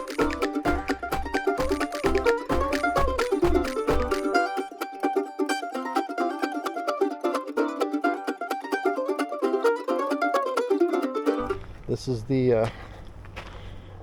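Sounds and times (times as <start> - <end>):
plucked-string bluegrass tune: 0.0 - 11.8.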